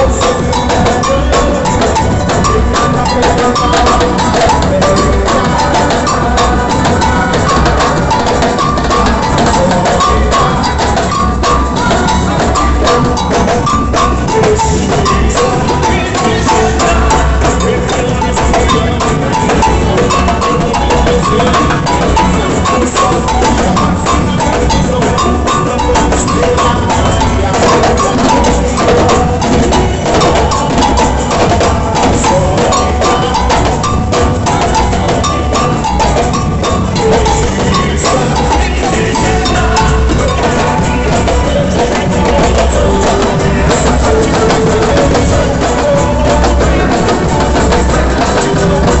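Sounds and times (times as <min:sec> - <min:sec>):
clattering hand percussion: 0:00.0 - 0:49.0
heavy bass drums: 0:00.0 - 0:49.0
sustained pitched instruments: 0:00.0 - 0:49.0.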